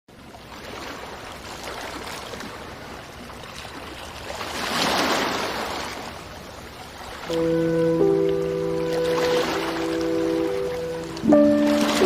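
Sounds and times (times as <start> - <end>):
ocean waves splashing: 0.1 - 12.0.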